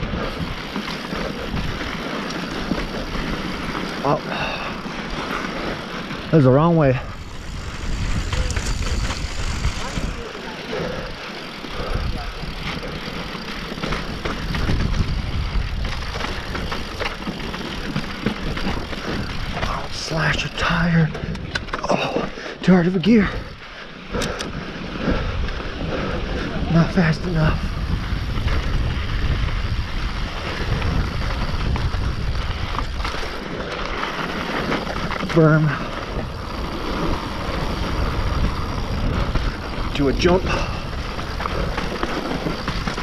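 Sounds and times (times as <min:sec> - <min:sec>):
bike rattles and knocks: 0:00.0 - 0:43.0
bike tyre noise on dirt: 0:00.0 - 0:43.0
wind rumble on microphone: 0:05.8 - 0:21.8, 0:23.3 - 0:43.0.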